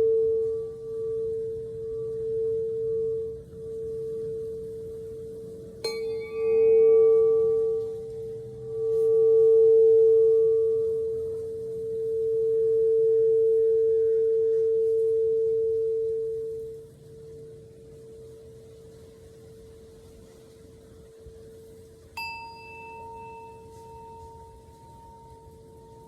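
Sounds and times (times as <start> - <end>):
singing bowl ringing: 0.0 - 26.0.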